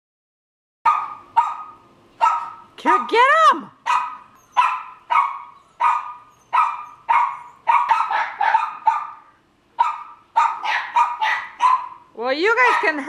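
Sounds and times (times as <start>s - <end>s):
dog barking: 0.9s - 2.7s, 3.8s - 13.0s.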